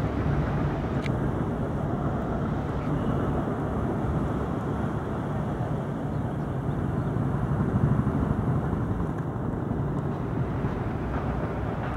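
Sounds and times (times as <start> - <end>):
train rumbling: 0.0 - 11.9.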